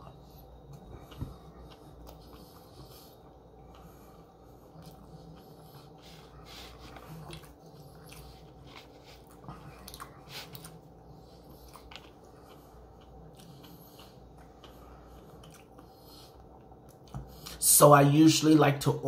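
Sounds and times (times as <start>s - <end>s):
faint wet chewing: 0.0s - 17.6s.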